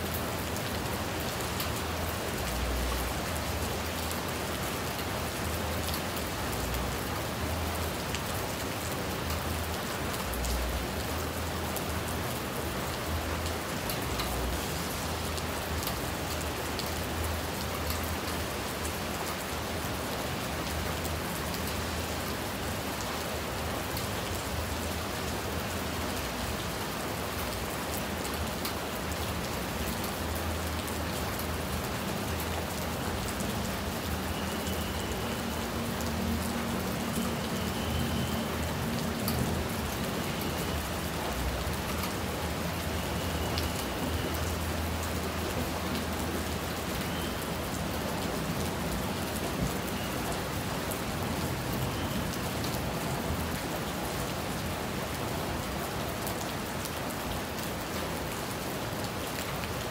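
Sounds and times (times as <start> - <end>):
raindrops ticking on a surface: 0.0 - 59.9
steady rain hiss: 0.0 - 59.9.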